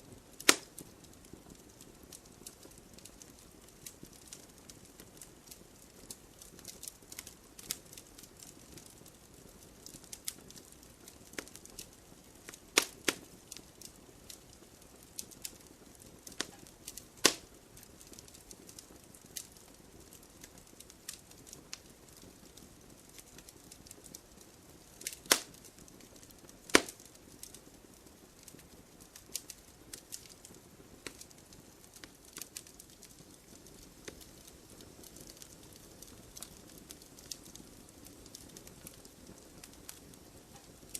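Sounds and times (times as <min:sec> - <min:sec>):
burning wood popping: 0:00.0 - 0:40.9
wood fire crackling: 0:00.0 - 0:40.9.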